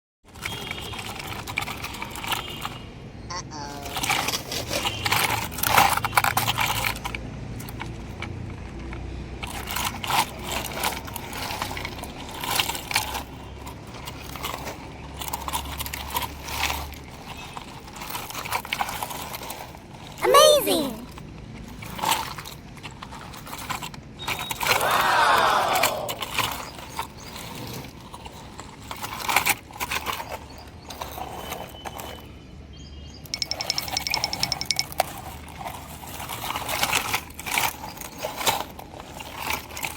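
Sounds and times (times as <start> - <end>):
metal toy cars clinking: 0.3 - 3.1, 3.8 - 32.4, 33.1 - 39.9.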